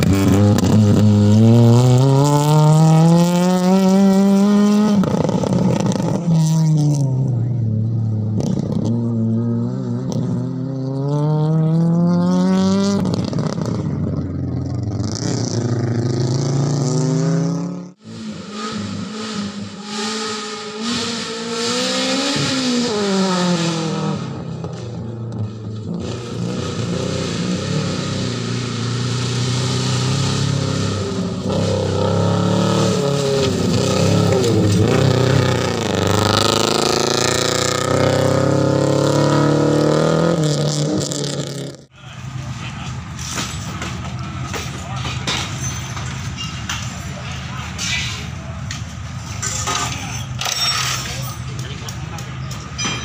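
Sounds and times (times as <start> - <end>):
rally car engines revving: 0.0 - 53.0.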